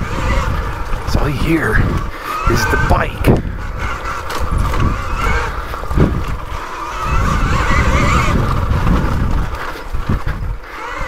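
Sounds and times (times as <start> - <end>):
electric motor whining: 0.0 - 11.0
tyres rumbling and knocking: 0.0 - 11.0.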